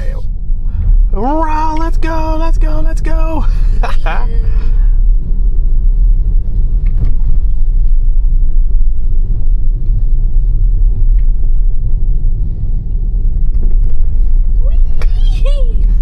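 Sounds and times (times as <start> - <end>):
tyre and road noise on snow: 0.0 - 16.0.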